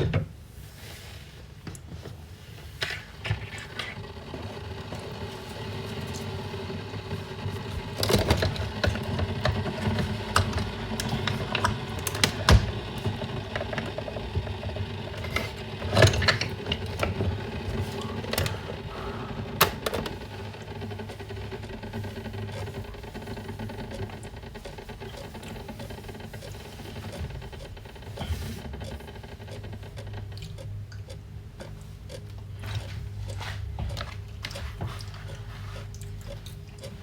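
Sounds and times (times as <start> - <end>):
steady low hum: 0.5 - 37.0.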